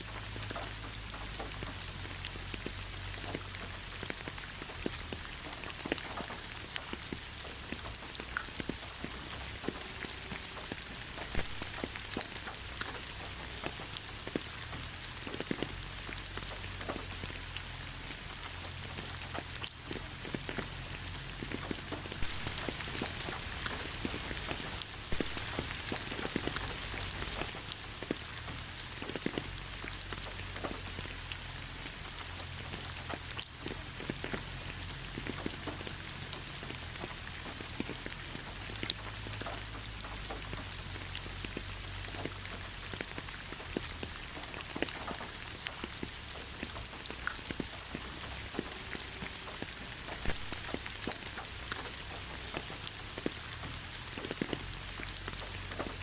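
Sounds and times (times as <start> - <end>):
raindrops ticking on a surface: 0.0 - 56.0
steady rain falling: 0.0 - 56.0.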